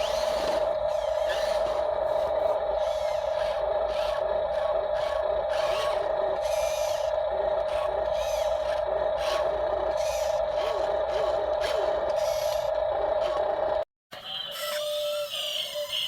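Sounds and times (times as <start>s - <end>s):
electric motor whining: 0.0s - 13.8s.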